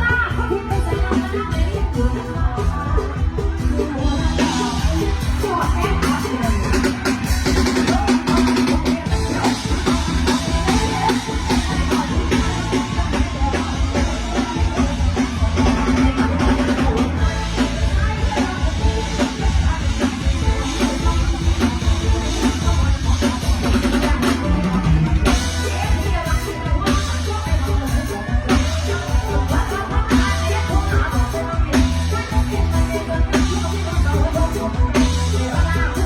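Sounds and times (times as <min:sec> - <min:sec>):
heavy bass drum beat: 0:00.0 - 0:36.0
live band music: 0:00.0 - 0:36.0.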